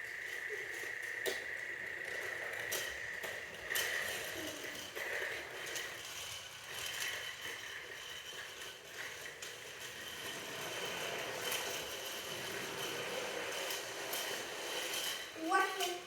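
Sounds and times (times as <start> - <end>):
toy train motor whir: 0.0 - 16.0.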